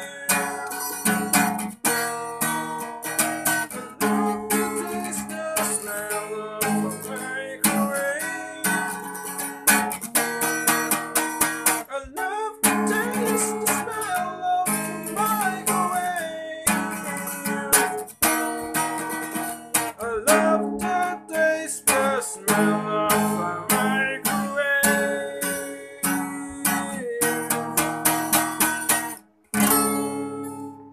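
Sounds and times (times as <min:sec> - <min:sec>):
acoustic guitar strumming chords: 0:00.0 - 0:30.9.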